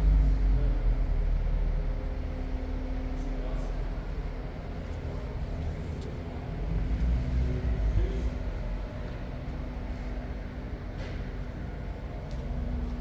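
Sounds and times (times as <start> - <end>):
sports car engine: 0.0 - 13.0
street traffic: 0.0 - 13.0.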